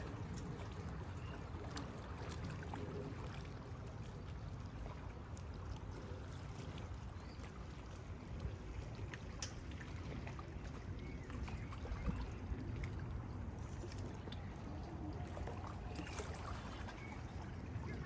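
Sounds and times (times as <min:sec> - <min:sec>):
small clicks and splashes: 0:00.0 - 0:18.0.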